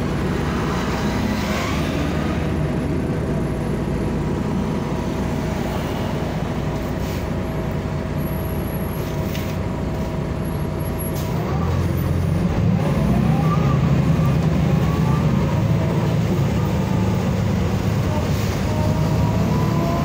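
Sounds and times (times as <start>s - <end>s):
diesel bus engine idling: 0.0s - 20.0s.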